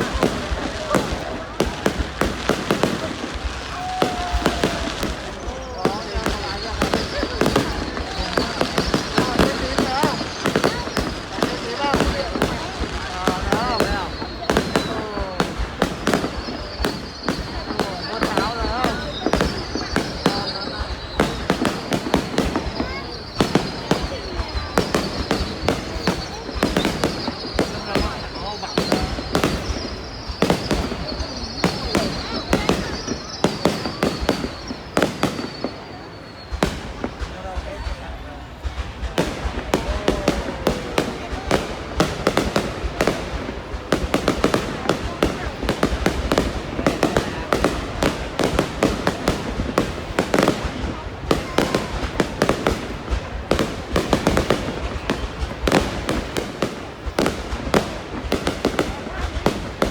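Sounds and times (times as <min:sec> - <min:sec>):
firework high crackle: 0:00.0 - 0:59.9.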